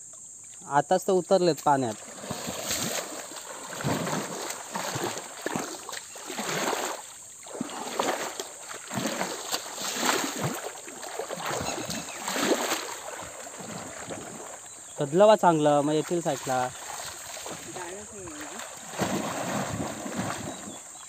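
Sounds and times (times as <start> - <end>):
muddy water splashing: 0.4 - 21.0.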